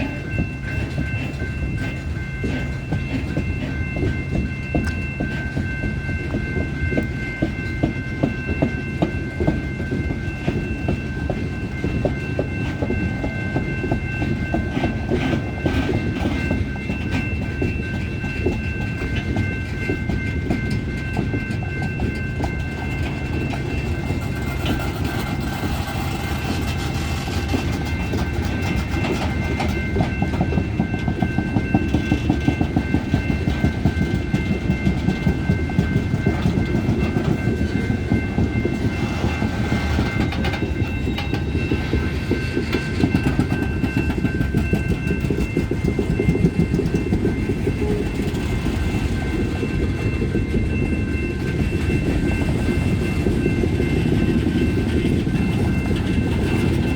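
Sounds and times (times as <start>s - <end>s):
train rumbling: 0.0s - 56.9s
train wheels clacking: 0.0s - 56.9s.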